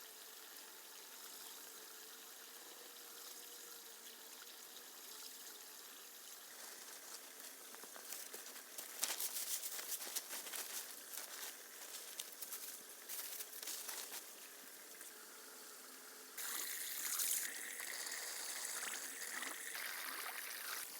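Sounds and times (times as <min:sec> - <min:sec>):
water trickling: 0:00.0 - 0:20.9.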